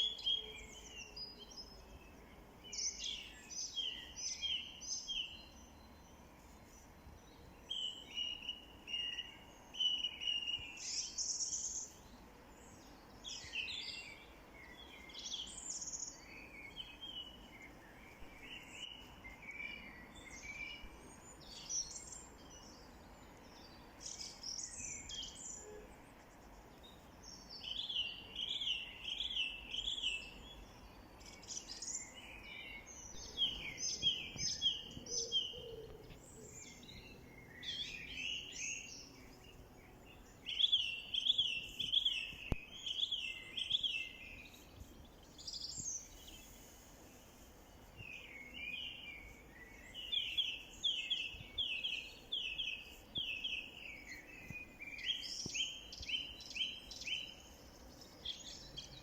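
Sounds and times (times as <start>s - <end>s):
songbirds singing and calling: 0.0s - 59.0s.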